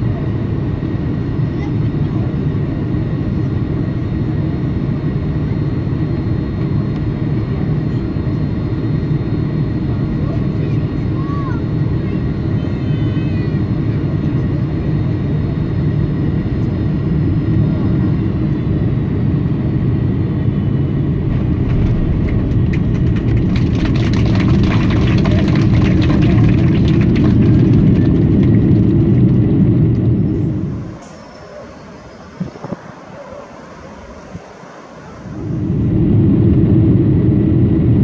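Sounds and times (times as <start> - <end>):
jet cabin low rumble: 0.0 - 38.0.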